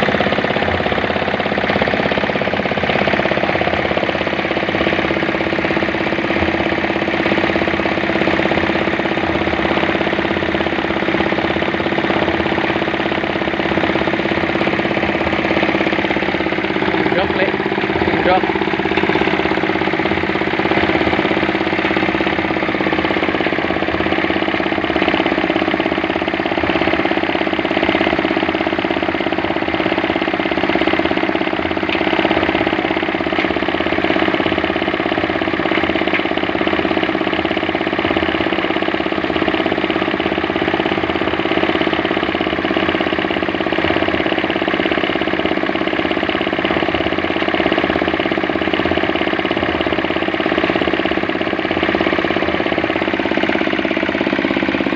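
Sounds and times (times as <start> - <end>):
small diesel engine running: 0.0 - 54.9.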